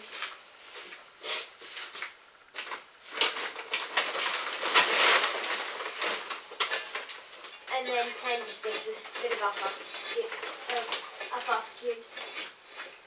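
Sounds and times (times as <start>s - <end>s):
feed sacks rustling and crinkling: 0.0s - 13.0s.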